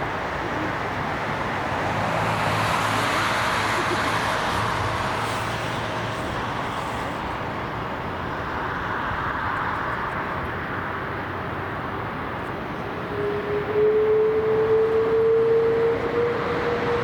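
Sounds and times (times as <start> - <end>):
jet airliner engines roaring: 0.0 - 17.0.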